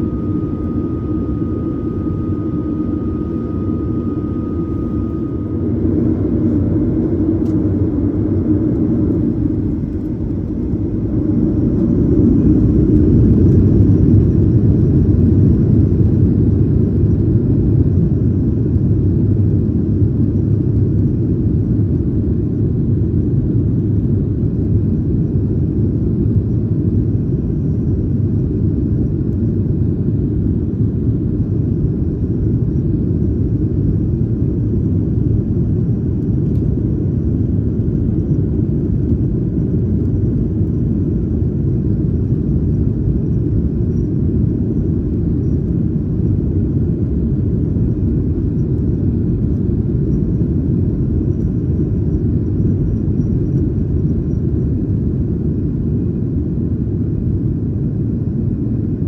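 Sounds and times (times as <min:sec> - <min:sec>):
jet engine cabin roar: 0:00.0 - 0:59.0.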